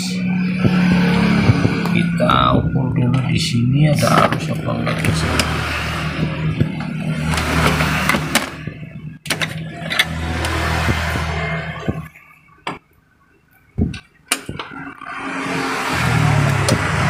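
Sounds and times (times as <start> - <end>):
vehicle engine running: 0.0 - 12.1, 15.0 - 17.0.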